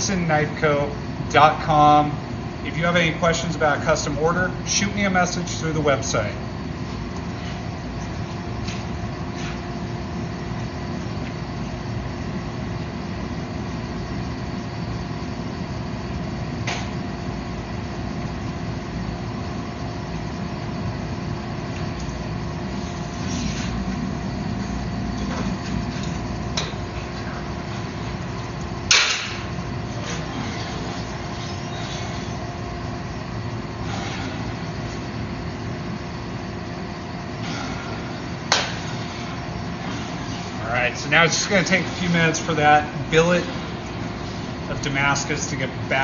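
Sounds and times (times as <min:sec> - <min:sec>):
forge and press motor running: 0:03.6 - 0:46.0.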